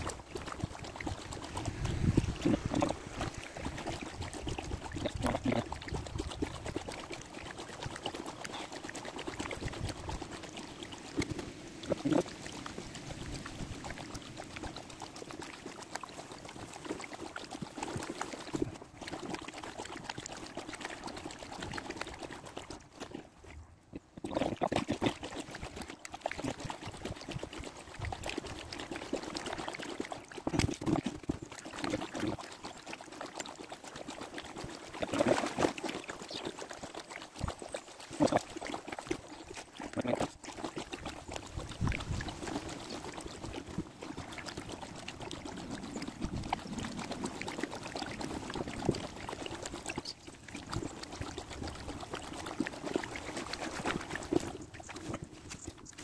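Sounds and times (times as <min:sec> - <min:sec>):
paddle dipping into water: 0:00.0 - 0:23.6, 0:24.2 - 0:56.0.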